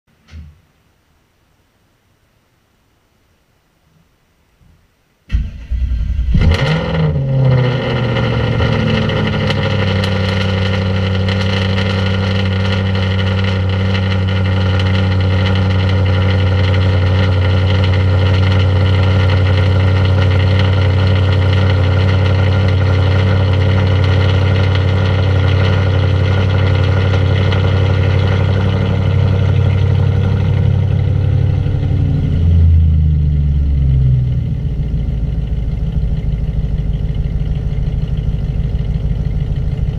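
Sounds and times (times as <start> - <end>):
car engine idling: 5.3 - 39.9.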